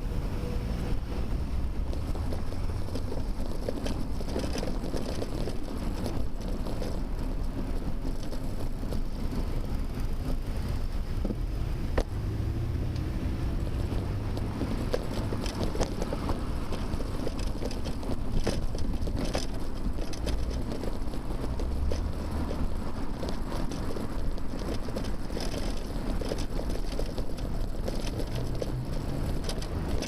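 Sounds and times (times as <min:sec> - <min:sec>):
wind noise on microphone: 0:00.0 - 0:30.0
bicycle clicks and rattles: 0:01.7 - 0:11.4, 0:14.3 - 0:30.0.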